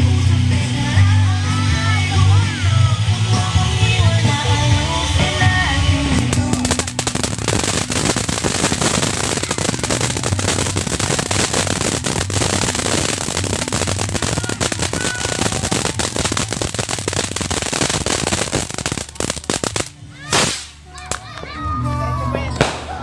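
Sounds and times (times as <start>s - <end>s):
firework fountain hissing and crackling: 0.0s - 21.3s, 22.6s - 23.0s.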